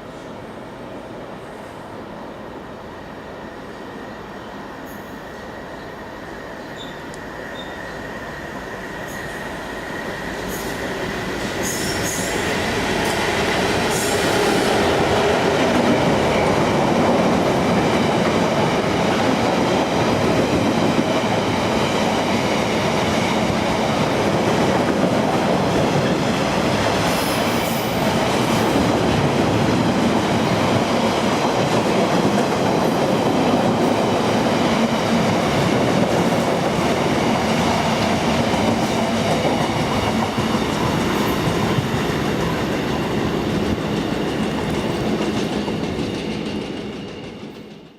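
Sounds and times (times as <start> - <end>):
train wheels rumbling on rails: 3.4 - 47.9.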